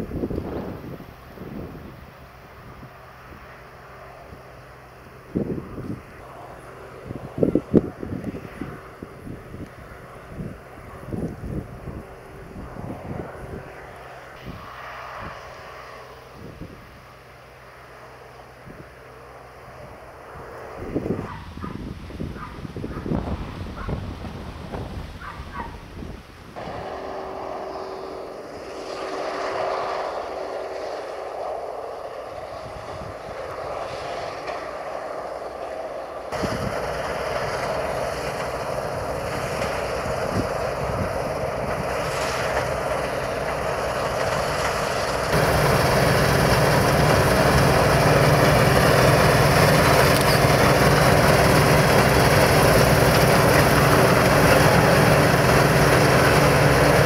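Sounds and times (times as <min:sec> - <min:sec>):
combine harvester drone: 0:00.0 - 0:24.5, 0:26.5 - 0:57.0.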